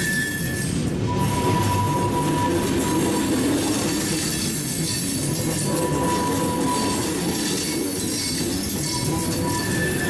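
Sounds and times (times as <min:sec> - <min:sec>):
freight train cars rumbling: 0:00.0 - 0:10.0
train wheel squeal: 0:00.0 - 0:10.0.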